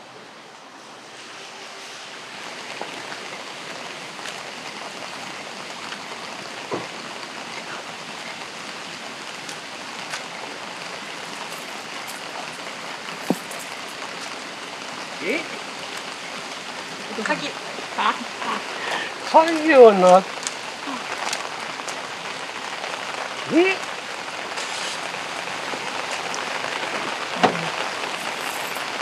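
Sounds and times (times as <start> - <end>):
steady rain falling: 0.0 - 29.0
raindrops tapping close by: 2.4 - 29.0.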